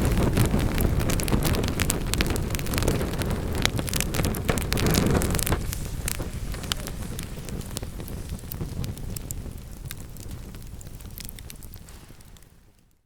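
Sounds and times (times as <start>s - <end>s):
low roar of flames: 0.0s - 13.0s
wood fire crackling and popping: 0.0s - 13.0s.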